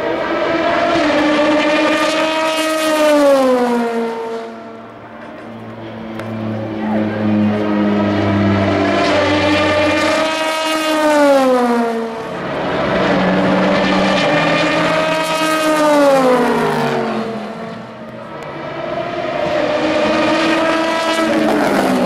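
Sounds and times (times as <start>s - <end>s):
race cars passing at speed: 0.0s - 22.0s.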